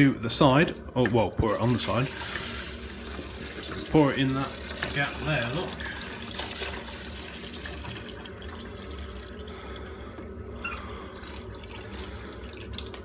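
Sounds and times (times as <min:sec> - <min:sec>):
water pouring splashing trickle: 0:01.5 - 0:10.0, 0:10.6 - 0:13.0.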